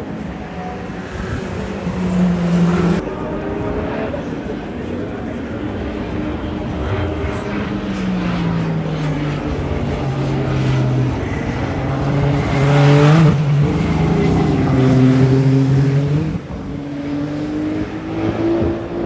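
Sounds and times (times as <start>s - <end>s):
race cars passing at speed: 0.0s - 19.0s.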